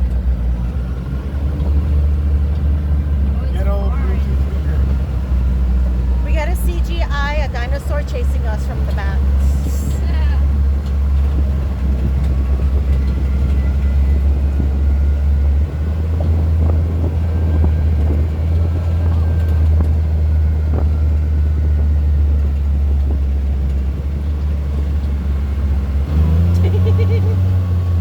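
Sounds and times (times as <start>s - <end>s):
atv engine droning: 0.0s - 28.0s.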